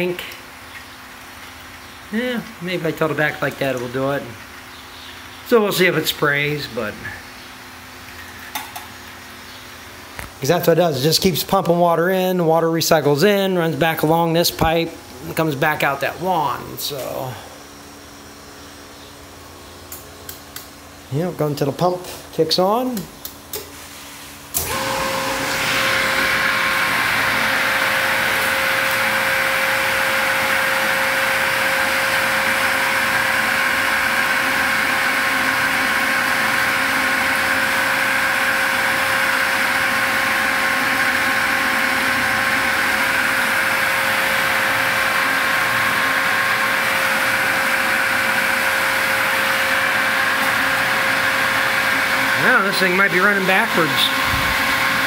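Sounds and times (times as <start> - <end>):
electric pump motor running: 0.0 - 23.7, 24.3 - 55.0.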